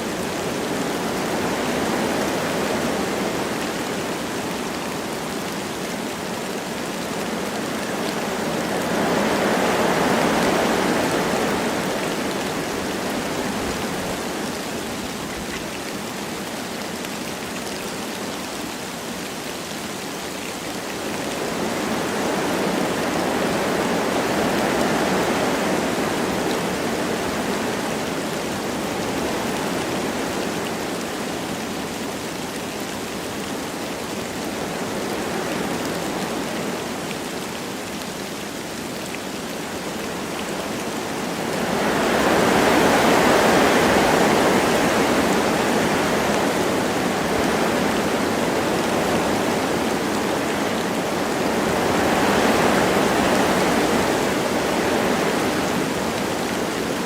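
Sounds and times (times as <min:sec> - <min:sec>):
light rain: 0:00.0 - 0:57.0
wind through trees: 0:00.0 - 0:57.0.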